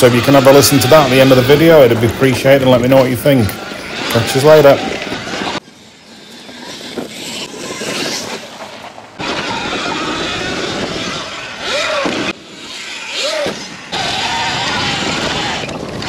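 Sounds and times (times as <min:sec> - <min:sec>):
electric dirt bike riding: 0:00.0 - 0:16.0.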